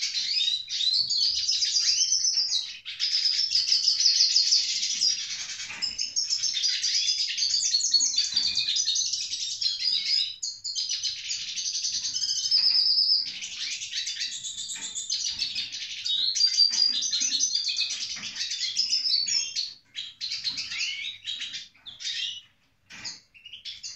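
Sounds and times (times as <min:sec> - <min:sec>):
bird twittering song: 0:00.0 - 0:23.9.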